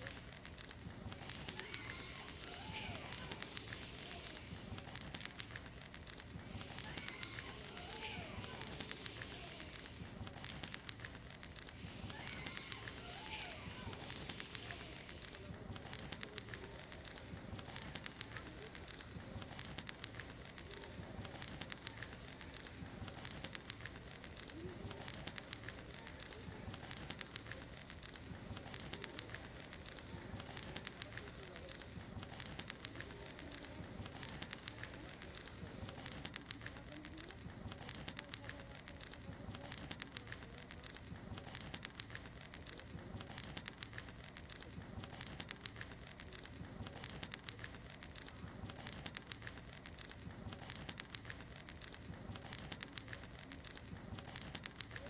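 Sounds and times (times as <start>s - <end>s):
bonfire crackling: 0.0s - 55.0s
high-pitched insect drone: 0.0s - 55.0s.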